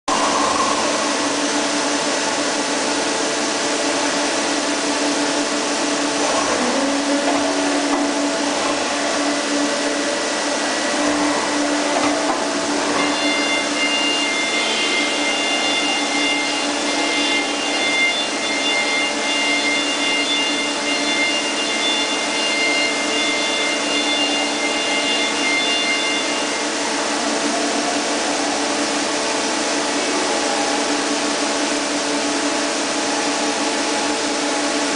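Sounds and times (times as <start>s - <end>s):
higher multi-tone whine: 0.1s - 34.9s
lathe mechanical whine: 0.1s - 34.9s.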